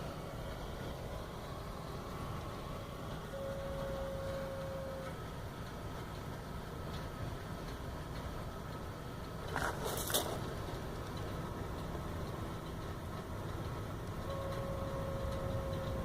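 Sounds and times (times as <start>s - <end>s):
low background rumble: 0.0s - 16.0s
steady pump hum: 0.0s - 16.0s.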